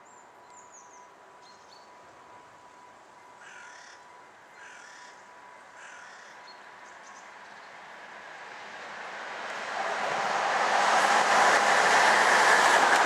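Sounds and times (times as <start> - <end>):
approaching train: 0.1 - 13.0.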